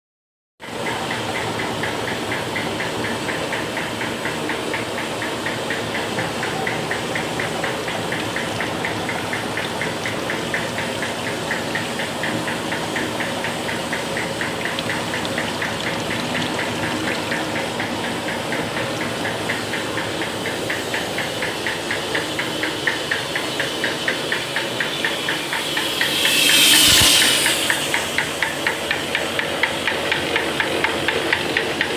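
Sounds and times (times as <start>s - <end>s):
mechanical ticking: 0.7s - 31.9s
machine motor running: 4.9s - 30.9s.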